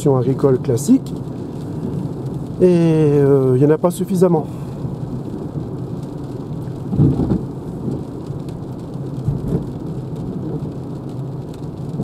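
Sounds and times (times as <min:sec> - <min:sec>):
rain on car: 0:00.0 - 0:12.0
tyres rumbling on wet road: 0:00.0 - 0:12.0.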